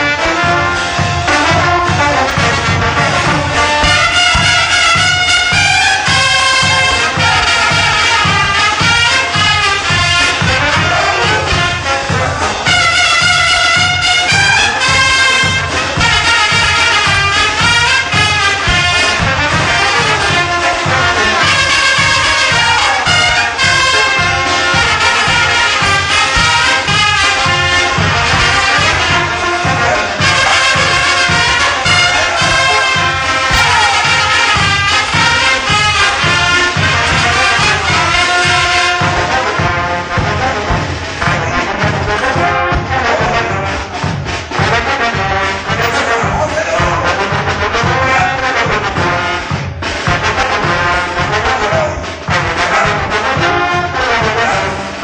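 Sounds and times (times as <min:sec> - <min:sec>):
bass drum beat: 0:00.0 - 0:55.0
brass band playing: 0:00.0 - 0:55.0
trumpets and trombones: 0:00.0 - 0:55.0.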